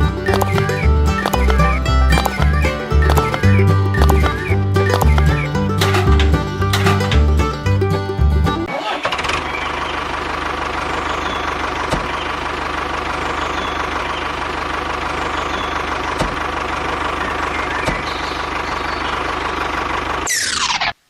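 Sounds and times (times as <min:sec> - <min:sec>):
engine idling: 0:00.0 - 0:20.8.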